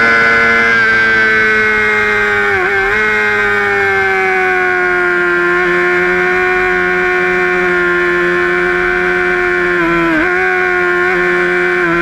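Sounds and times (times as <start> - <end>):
motorcycle engine revving high: 0.0 - 12.0.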